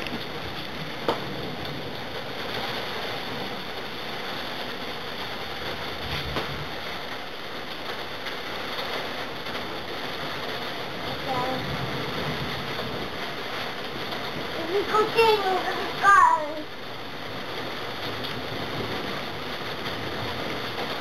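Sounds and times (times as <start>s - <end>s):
rain: 0.0s - 21.0s
wind: 0.0s - 21.0s.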